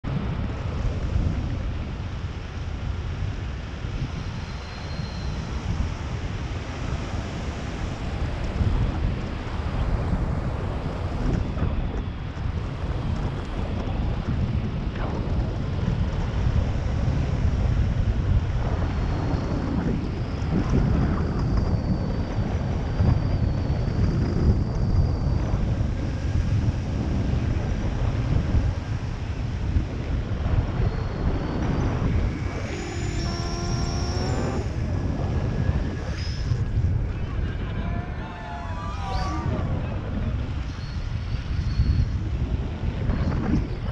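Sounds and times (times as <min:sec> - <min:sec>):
wind buffeting microphone: 0:00.0 - 0:43.9
pitched hum with high whistle: 0:03.0 - 0:43.9.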